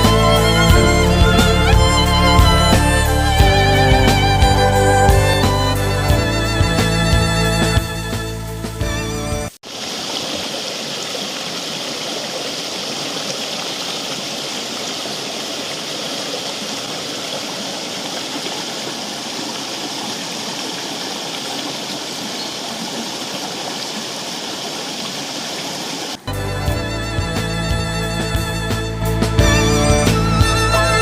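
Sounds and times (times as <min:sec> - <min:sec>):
creek water rushing: 0:00.0 - 0:08.2, 0:08.8 - 0:31.0.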